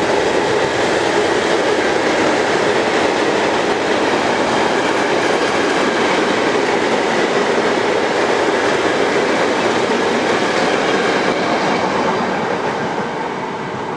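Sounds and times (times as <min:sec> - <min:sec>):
freight train wheels on track: 0:00.0 - 0:13.9.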